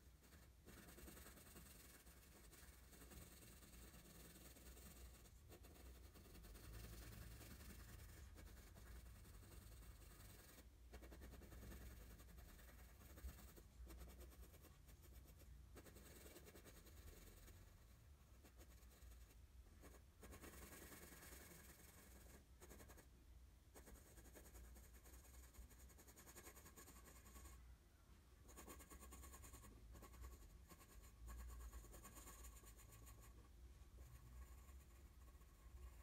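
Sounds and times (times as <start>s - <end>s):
pencil scratching on paper: 0.0s - 23.1s, 23.7s - 27.6s, 28.4s - 36.0s.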